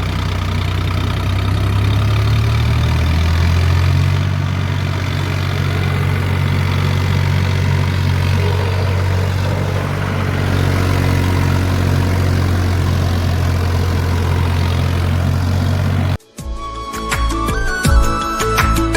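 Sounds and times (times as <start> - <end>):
tractor diesel engine running: 0.0 - 16.2.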